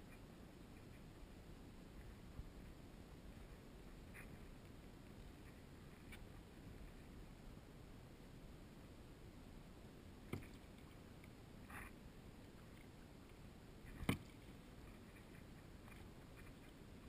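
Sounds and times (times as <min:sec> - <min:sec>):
soft rustle: 0:00.0 - 0:17.0
water noise: 0:00.0 - 0:17.0.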